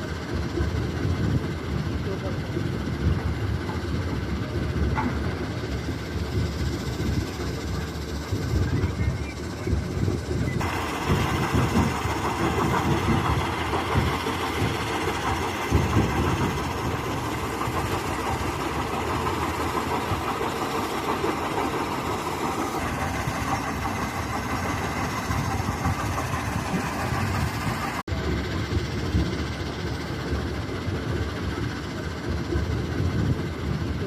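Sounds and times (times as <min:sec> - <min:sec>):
heavy machinery engine rumble: 0:00.0 - 0:34.0.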